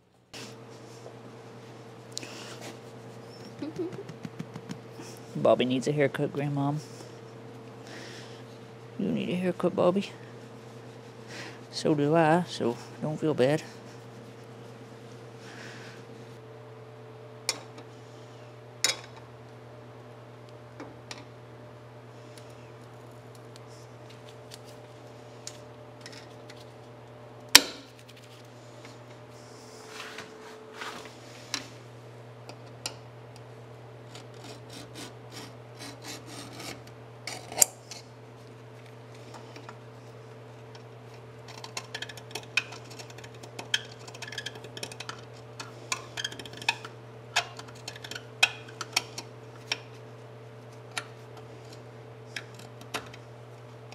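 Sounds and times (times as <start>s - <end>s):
shop hum: 0.0s - 53.9s.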